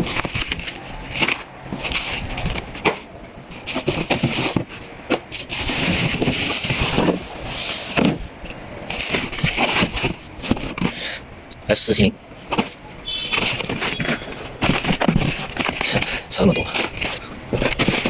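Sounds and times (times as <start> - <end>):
packaging rustling and scraping: 0.0 - 11.1, 12.3 - 18.0.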